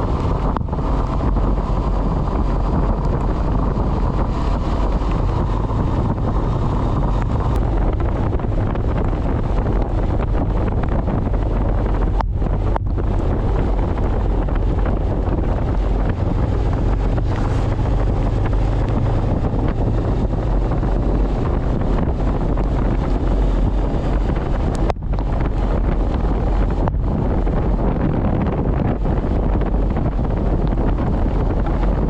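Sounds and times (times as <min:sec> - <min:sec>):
motorcycle engine running: 0:00.0 - 0:32.0
wind roaring over microphone: 0:00.0 - 0:32.0.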